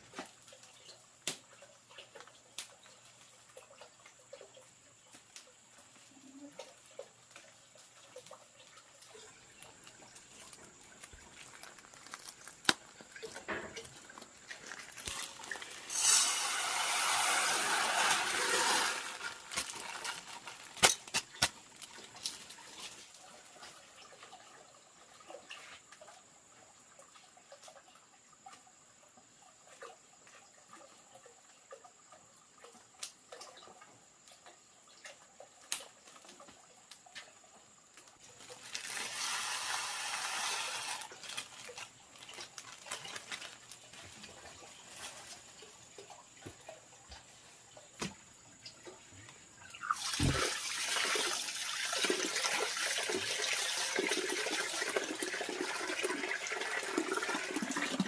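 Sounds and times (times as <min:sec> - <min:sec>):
water pouring: 0:00.0 - 0:28.8, 0:29.6 - 0:58.0.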